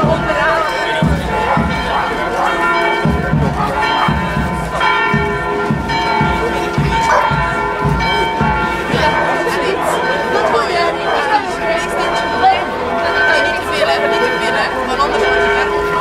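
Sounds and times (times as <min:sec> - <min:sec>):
church bells ringing: 0:00.0 - 0:16.0
people talking: 0:00.0 - 0:16.0.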